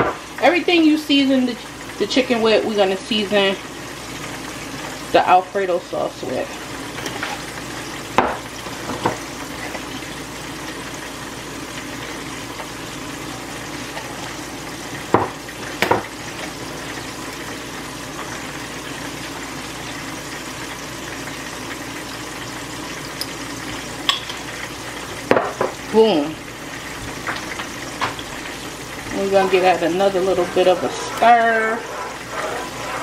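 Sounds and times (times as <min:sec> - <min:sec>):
chicken frying in oil: 0:00.0 - 0:33.0.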